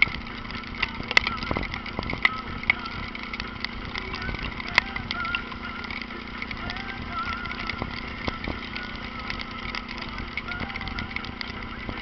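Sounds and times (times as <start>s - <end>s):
motorcycle engine running: 0.0s - 12.0s
sharp clicks: 0.0s - 12.0s.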